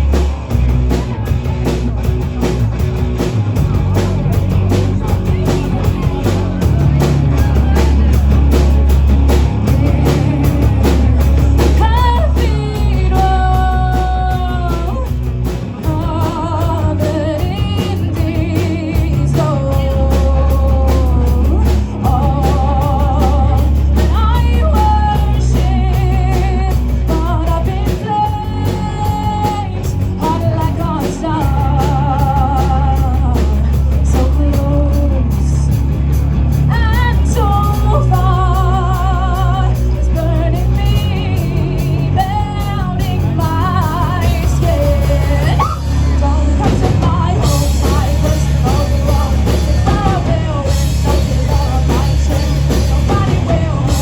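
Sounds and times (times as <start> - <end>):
bass: 0.0 - 54.0
drum kit: 0.0 - 54.0
electric guitar: 0.0 - 54.0
person singing: 9.6 - 35.7, 36.7 - 54.0.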